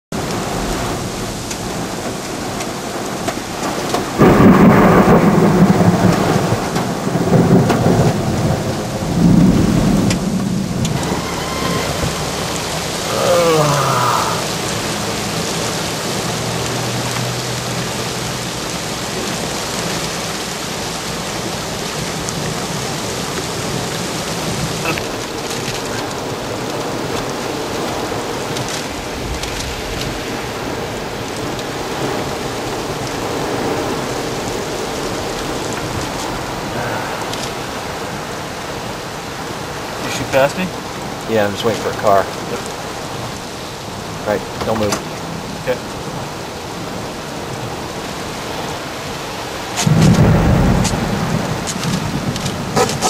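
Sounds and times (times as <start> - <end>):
thunder clap rumbling: 0.1 - 41.2, 42.2 - 53.0
torrential rain hissing: 0.1 - 53.0.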